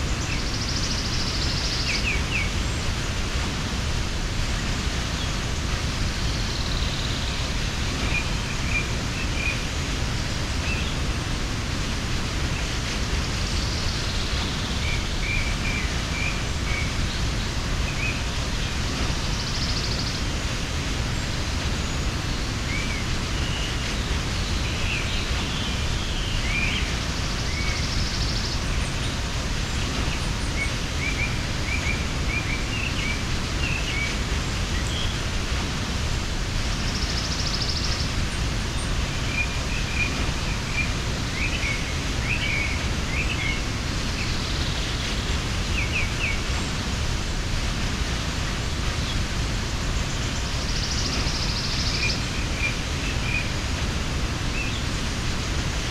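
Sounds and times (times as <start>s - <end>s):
small birds chirping: 0.0s - 55.9s
waterfall rushing: 0.0s - 55.9s.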